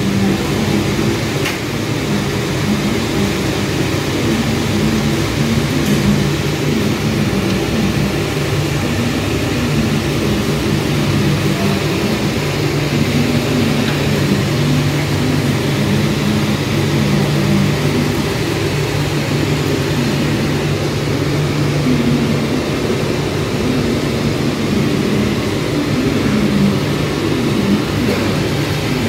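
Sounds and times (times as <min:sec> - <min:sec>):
machine mechanical drone: 0:00.0 - 0:29.0.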